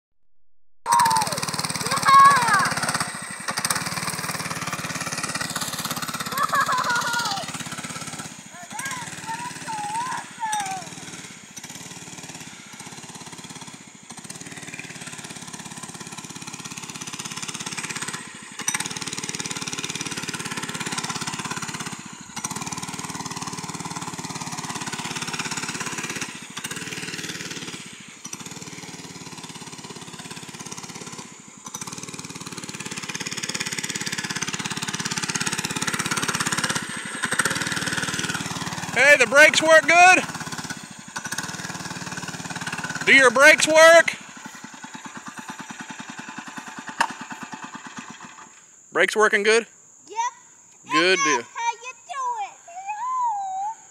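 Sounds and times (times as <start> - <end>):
mini bike small engine running: 0.9 - 53.9.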